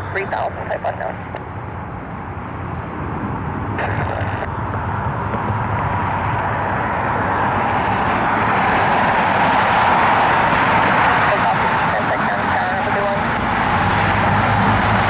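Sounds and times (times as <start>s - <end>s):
jet airliner engine whine: 0.0s - 15.0s.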